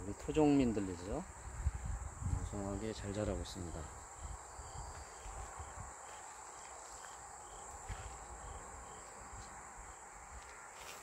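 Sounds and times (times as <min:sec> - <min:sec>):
high insect trill: 0:00.0 - 0:11.0
pulsing insect chirp: 0:00.0 - 0:11.0.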